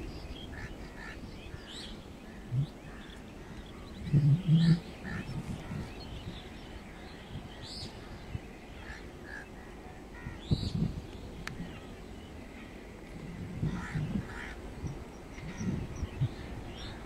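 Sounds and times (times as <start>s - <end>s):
bird calls: 0.0s - 17.0s
steady low rumble: 0.0s - 17.0s.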